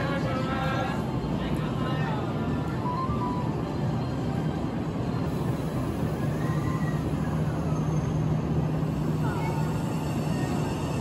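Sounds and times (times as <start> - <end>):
electric train low hum: 0.0 - 11.0.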